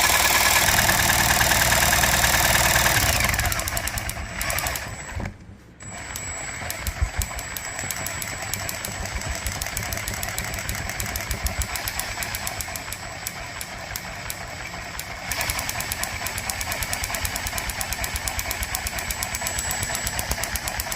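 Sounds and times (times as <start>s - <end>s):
engine firing in rapid pulses: 0.0s - 20.9s.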